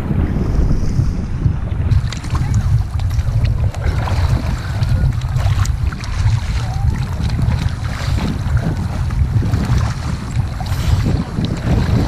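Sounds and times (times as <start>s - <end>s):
wind rumble on microphone: 0.0s - 12.0s
sea water sloshing and splashing: 0.6s - 12.0s.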